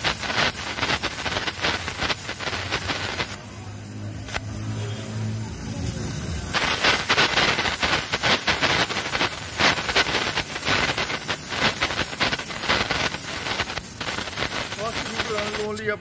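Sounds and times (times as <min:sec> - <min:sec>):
weld crackling: 0:00.0 - 0:16.0
welding torch hissing: 0:00.0 - 0:16.0.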